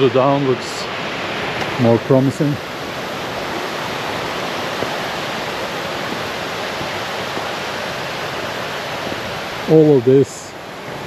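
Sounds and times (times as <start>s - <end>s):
waterfall and rushing river: 0.0s - 11.0s.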